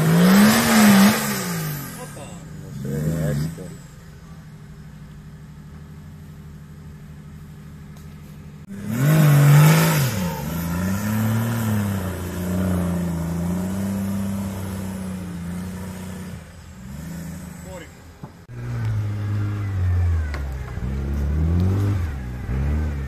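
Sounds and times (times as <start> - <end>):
race vehicle engine revving: 0.0 - 23.0.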